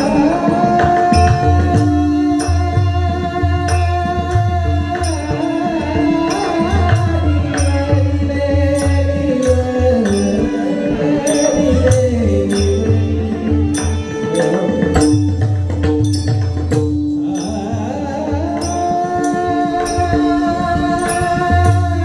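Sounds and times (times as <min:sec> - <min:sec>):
hand cymbal clashes: 0:00.0 - 0:22.0
harmonium drone: 0:00.0 - 0:22.0
man singing: 0:00.0 - 0:22.0.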